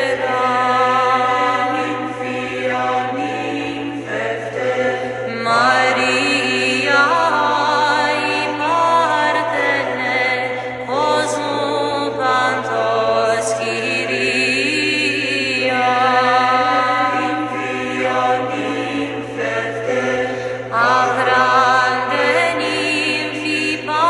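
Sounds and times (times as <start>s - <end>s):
chanted hymn with held notes: 0.0s - 24.0s.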